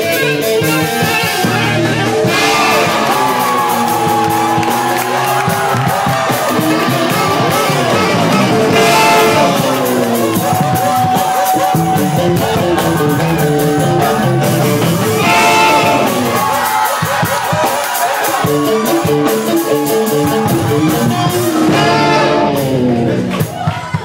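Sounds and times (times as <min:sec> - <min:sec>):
live band playing upbeat groove: 0:00.0 - 0:24.0.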